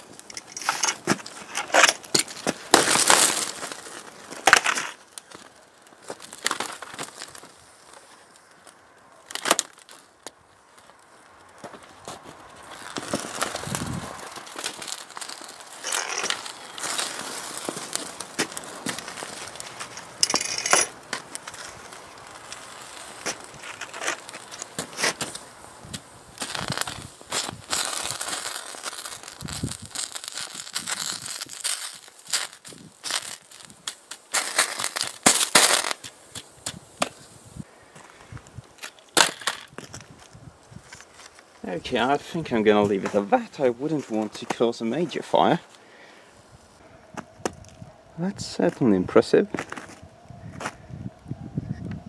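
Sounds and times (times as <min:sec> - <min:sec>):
fire crackling and popping: 0:00.0 - 0:48.8.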